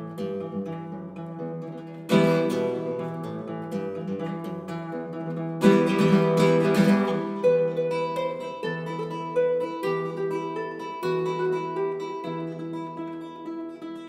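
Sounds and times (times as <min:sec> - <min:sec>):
classical guitar playing: 0:00.0 - 0:14.0.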